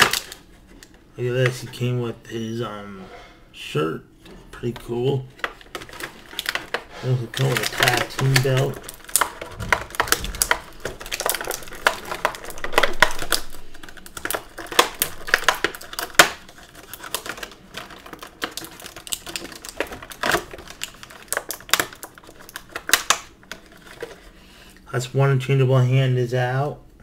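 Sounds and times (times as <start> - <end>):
plastic packaging crackling: 0.0 - 1.9, 4.5 - 24.8.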